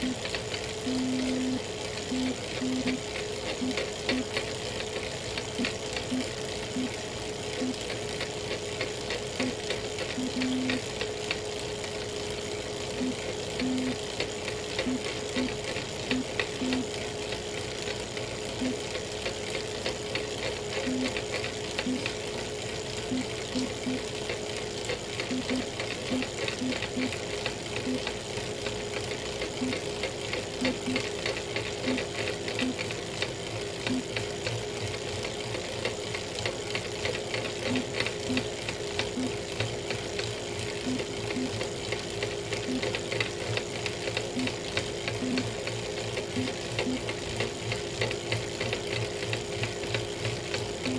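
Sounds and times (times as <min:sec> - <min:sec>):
bike trainer whine: 0:00.0 - 0:50.9.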